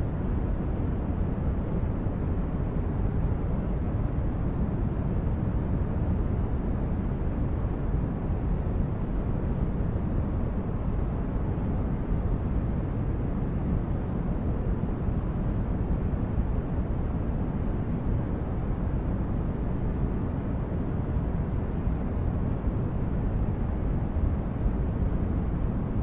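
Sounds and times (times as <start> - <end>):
steady low rumbling noise: 0.0 - 26.0.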